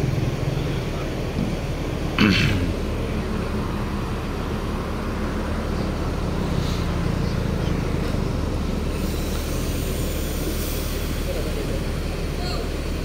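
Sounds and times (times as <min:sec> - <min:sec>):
diesel bus engines idling: 0:00.0 - 0:13.0.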